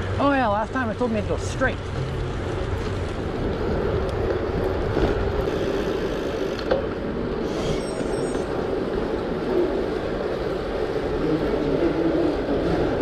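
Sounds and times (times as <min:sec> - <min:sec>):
bike tyres rolling: 0:00.0 - 0:13.0
wind noise: 0:01.0 - 0:13.0.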